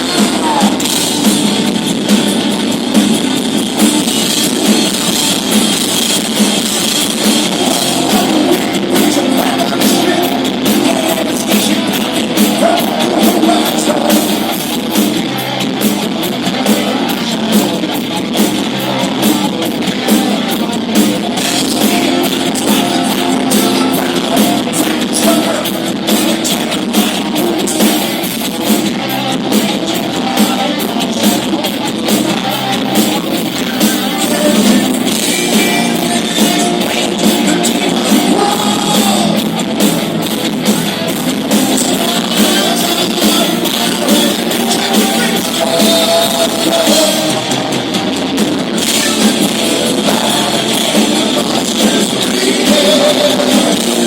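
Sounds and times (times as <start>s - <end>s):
person singing: 0.0s - 1.6s, 7.2s - 40.2s, 41.1s - 48.0s, 48.7s - 54.0s
distorted electric guitar: 0.0s - 54.0s
drum kit: 0.0s - 54.0s
live rock band playing: 0.0s - 54.0s.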